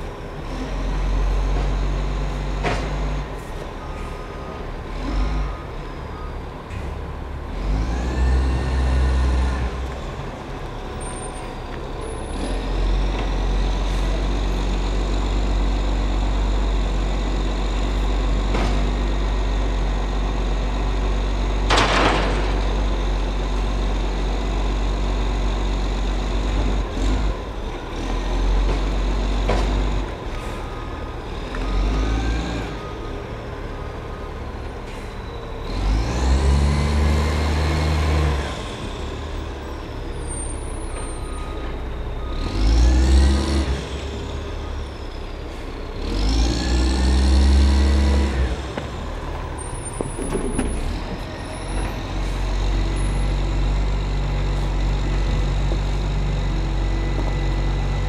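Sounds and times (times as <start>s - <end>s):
diesel truck engine revving: 0.0s - 58.0s
engine whine: 0.0s - 58.0s.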